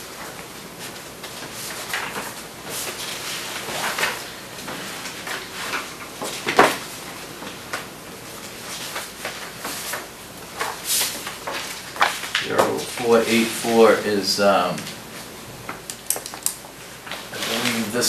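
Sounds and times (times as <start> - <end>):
paper rustling and shuffling: 0.0 - 18.0.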